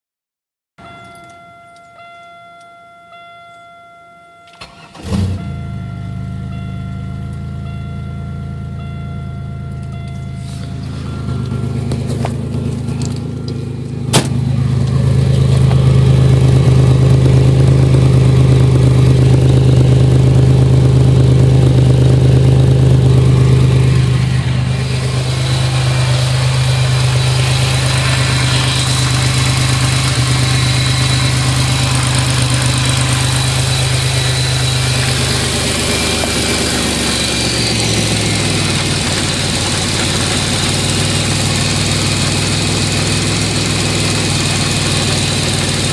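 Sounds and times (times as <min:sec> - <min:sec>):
car engine idling: 0:04.5 - 0:45.9.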